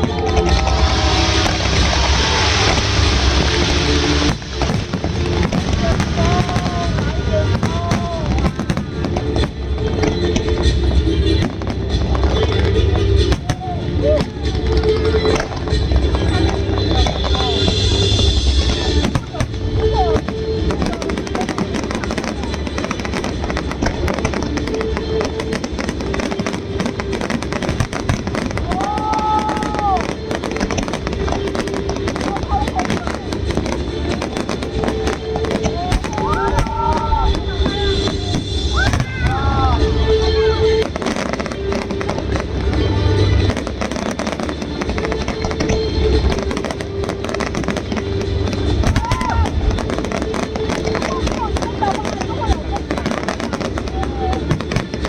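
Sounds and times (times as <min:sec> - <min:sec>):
fireworks bursting and crackling: 0:00.0 - 0:55.0
music playing: 0:00.0 - 0:55.0.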